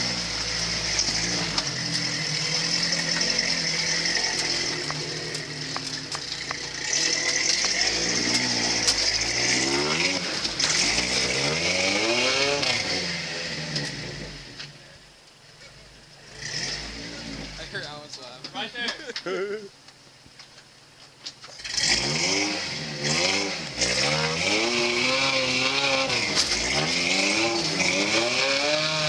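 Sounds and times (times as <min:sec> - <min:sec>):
truck engine revving under load: 0:00.0 - 0:14.7, 0:16.2 - 0:17.7, 0:21.6 - 0:29.0.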